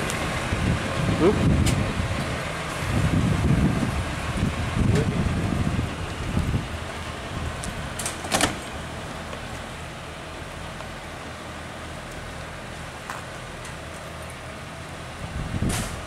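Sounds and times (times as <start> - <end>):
diesel train engine idling: 0.0 - 16.0.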